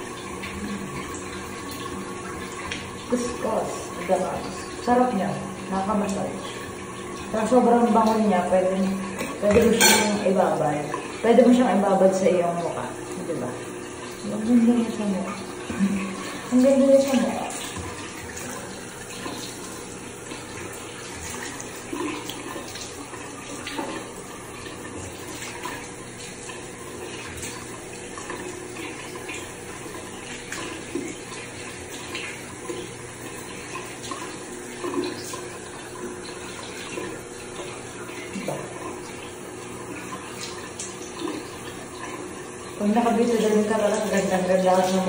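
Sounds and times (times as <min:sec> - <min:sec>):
tap water running into sink: 0:00.0 - 0:45.0
water splashing: 0:00.0 - 0:45.0.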